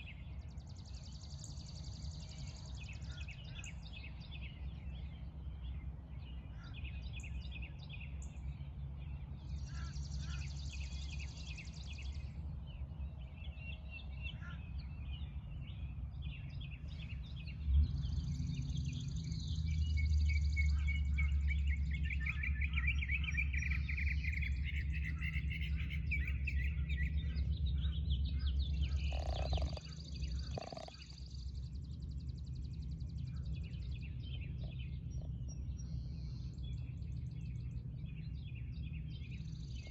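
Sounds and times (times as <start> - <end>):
birds chirping and trilling: 0.0 - 39.9
steady low rumble: 0.0 - 39.9.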